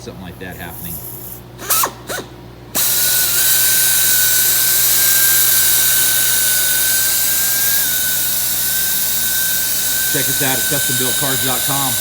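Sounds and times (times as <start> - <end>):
pneumatic buffer whining: 1.2 - 12.0.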